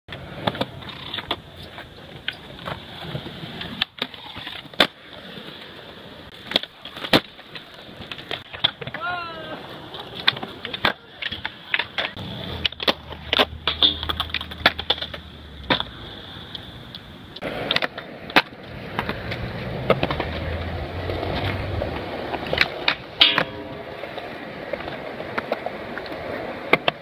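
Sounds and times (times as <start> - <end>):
skateboard wheels rolling on concrete: 0.1 - 27.0
skateboards clacking on ground: 0.1 - 27.0.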